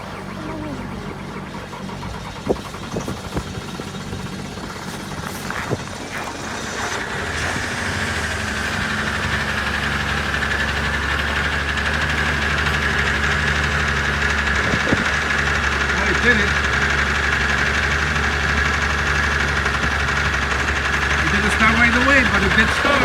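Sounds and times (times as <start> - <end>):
engine knocking: 0.0 - 23.0
engine running: 0.0 - 23.0.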